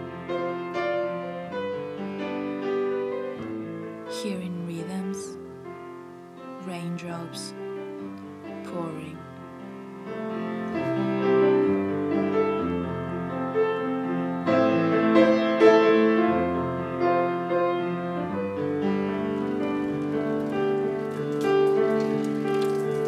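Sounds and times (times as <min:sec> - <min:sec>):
piano playing: 0:00.0 - 0:23.0.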